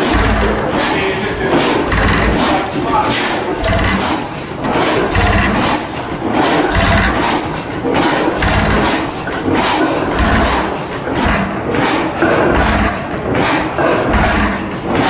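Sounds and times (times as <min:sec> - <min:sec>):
deep engine thumps: 0:00.0 - 0:15.0
valve gear clicking and clatter: 0:00.0 - 0:15.0.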